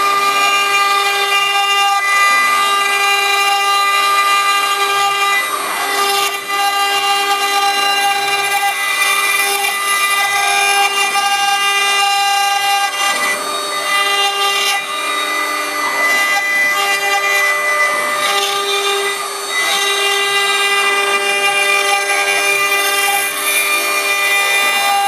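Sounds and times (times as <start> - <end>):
stone router spindle whining: 0.0 - 25.0.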